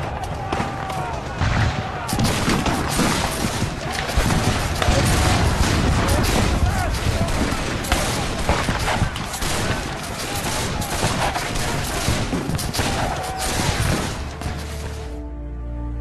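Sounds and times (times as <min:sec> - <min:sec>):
rapid gunfire: 0:00.0 - 0:15.0.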